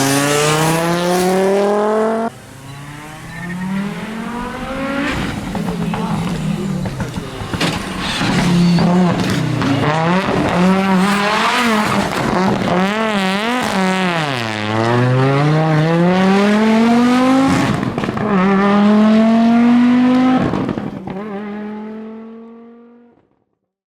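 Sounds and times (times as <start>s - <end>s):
rally car engine revving: 0.0s - 23.2s.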